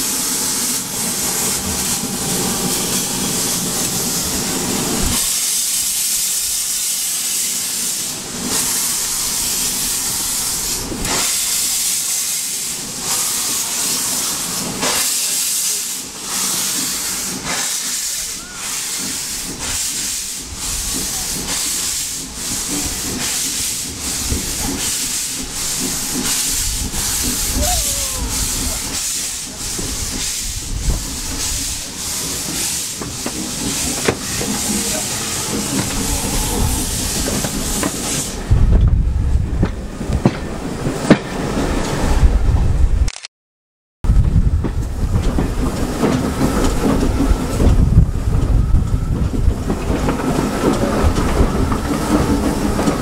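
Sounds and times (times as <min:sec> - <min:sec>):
steam hissing: 0:00.0 - 0:38.6, 0:45.0 - 0:53.0.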